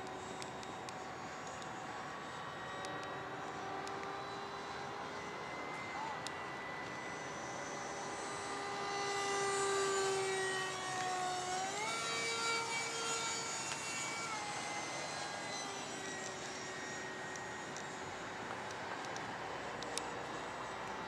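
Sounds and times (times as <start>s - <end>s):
electric ducted fan whine: 0.0s - 21.0s.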